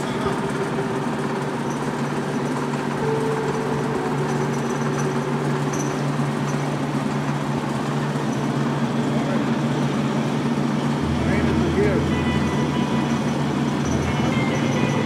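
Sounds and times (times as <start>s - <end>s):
fan gearbox mechanical hum: 0.0s - 15.0s
higher mechanical tone: 0.0s - 15.0s.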